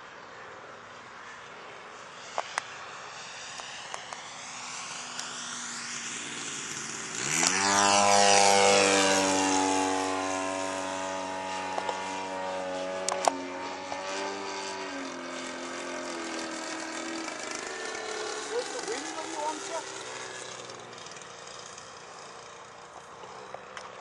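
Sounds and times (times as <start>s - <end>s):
propeller plane engine: 0.0s - 24.0s.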